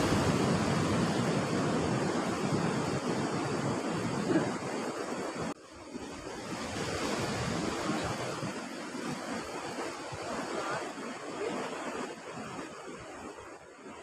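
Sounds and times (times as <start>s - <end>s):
surf on rocky shore: 0.0s - 14.0s
wind on microphone: 0.0s - 14.0s.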